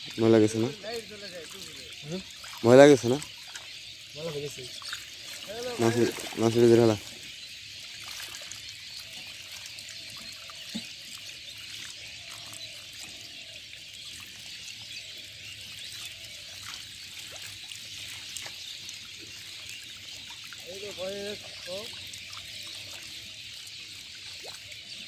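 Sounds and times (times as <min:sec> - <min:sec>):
water pouring and trickling: 0:00.0 - 0:25.0.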